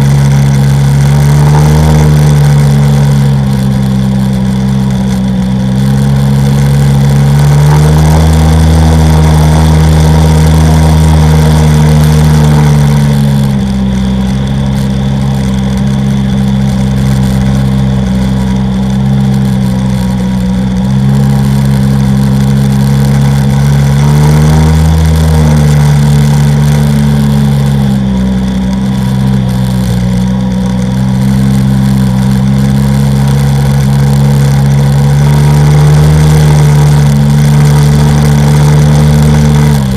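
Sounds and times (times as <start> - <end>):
personal watercraft engine revving: 0.0 - 39.9.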